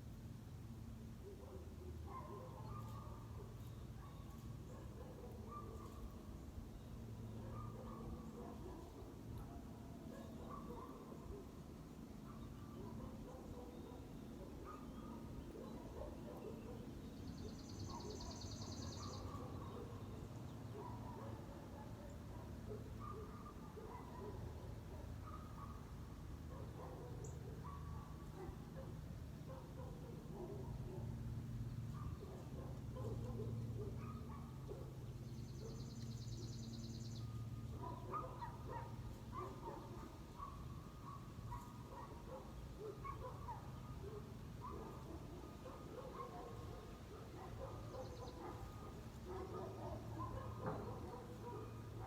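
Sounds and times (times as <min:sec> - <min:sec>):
songbird trill: 0:00.0 - 0:28.6, 0:29.9 - 0:52.0.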